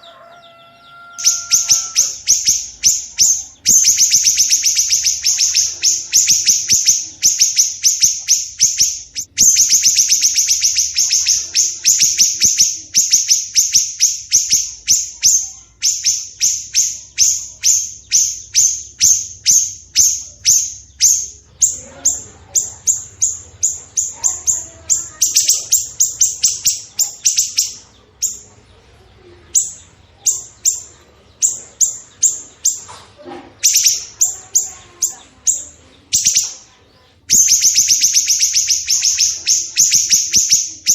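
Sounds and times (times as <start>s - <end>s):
songbird repeating harsh sharp notes: 0.9s - 28.4s, 33.6s - 40.9s.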